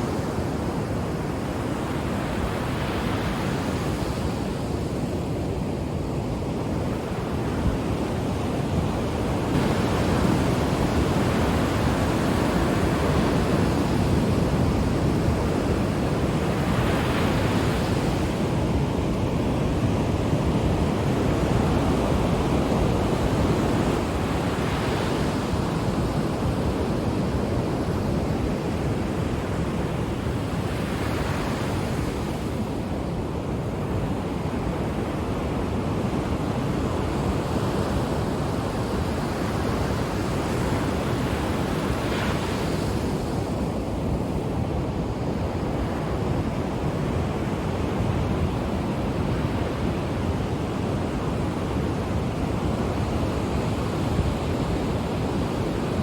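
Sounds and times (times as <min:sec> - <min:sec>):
ocean waves breaking on shore: 0:00.0 - 0:56.0
wind noise on microphone: 0:00.0 - 0:56.0.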